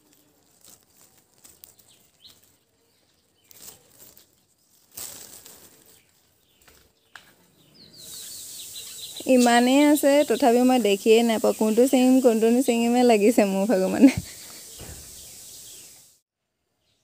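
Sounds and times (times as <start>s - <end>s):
leaves and twigs rustling: 0.0s - 16.2s.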